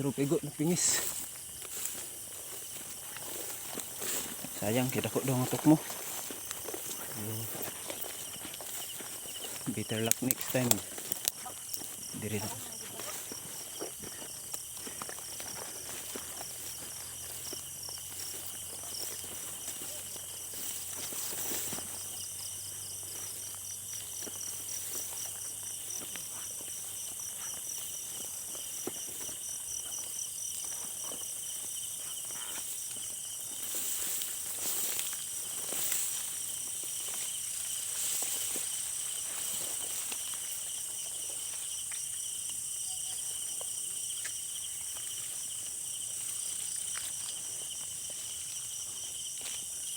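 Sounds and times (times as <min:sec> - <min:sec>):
footsteps: 0:00.0 - 0:49.9
insects trilling: 0:00.0 - 0:49.9
rustling of leaves and brush: 0:00.0 - 0:49.9.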